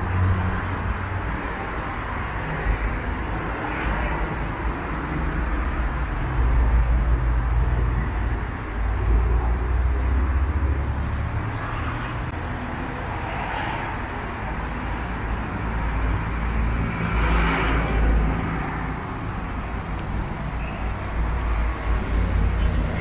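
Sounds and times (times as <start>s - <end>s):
cars passing with tyre noise: 0.0s - 23.0s
steady low traffic rumble: 0.0s - 23.0s.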